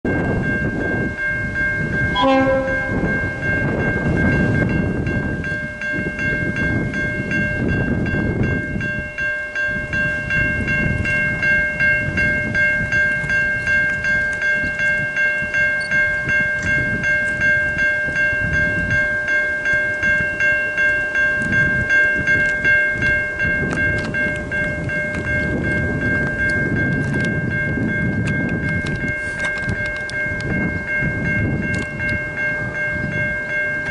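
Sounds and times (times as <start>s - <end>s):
level crossing bells ringing: 0.1s - 33.9s.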